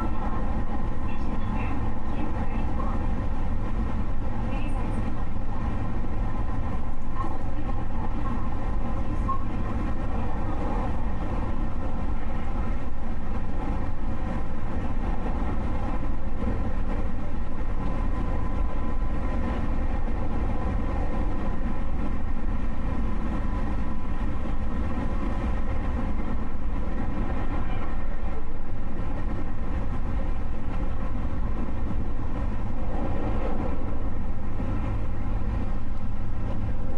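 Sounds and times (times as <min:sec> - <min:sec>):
train rumble inside carriage: 0:00.0 - 0:36.9.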